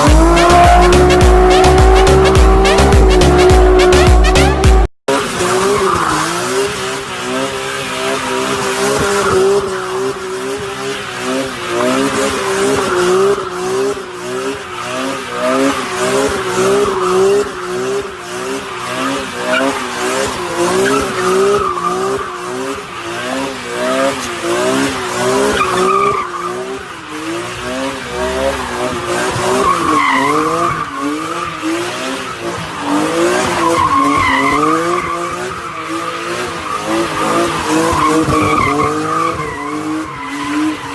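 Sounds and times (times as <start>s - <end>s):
car engine revving: 0.0s - 40.9s
tires squealing: 0.0s - 40.9s.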